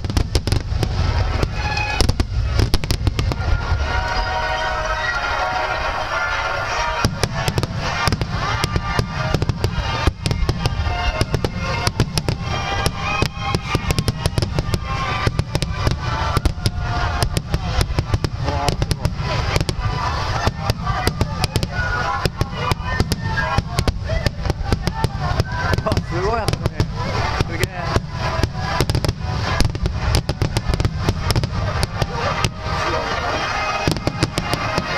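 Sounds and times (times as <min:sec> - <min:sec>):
fireworks bangs and crackles: 0:00.0 - 0:34.9
music playing: 0:00.4 - 0:34.9.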